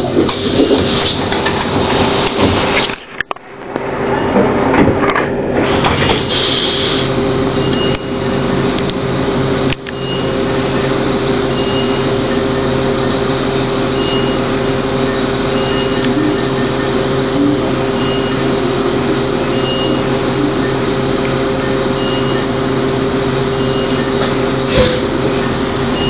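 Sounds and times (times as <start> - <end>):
electric bus interior drone: 0.0 - 26.0.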